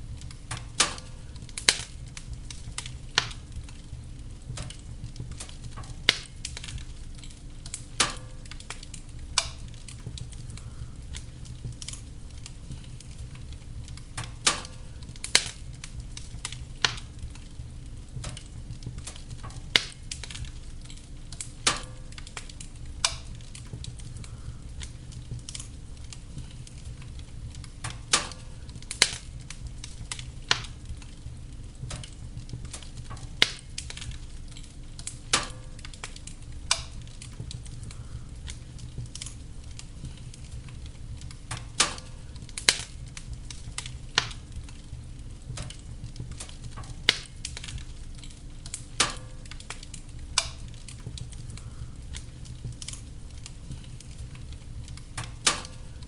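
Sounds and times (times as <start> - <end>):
fire crackling and popping: 0.0 - 56.0
fire flames rumbling: 0.0 - 56.0.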